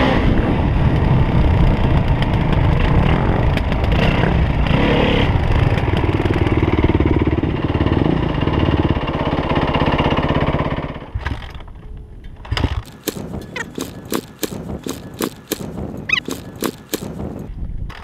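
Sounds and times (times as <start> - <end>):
dirt bike engine running: 0.0 - 11.2, 12.6 - 17.5.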